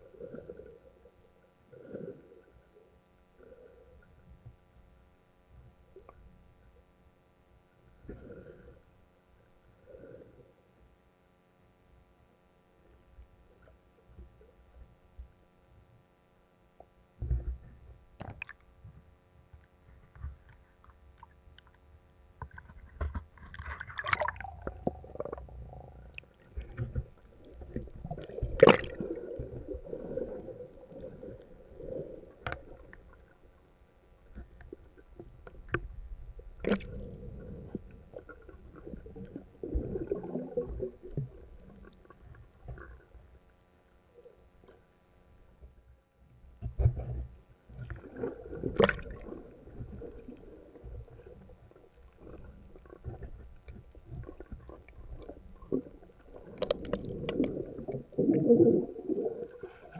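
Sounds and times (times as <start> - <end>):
muffled water swishing and gurgling: 0.0 - 59.9.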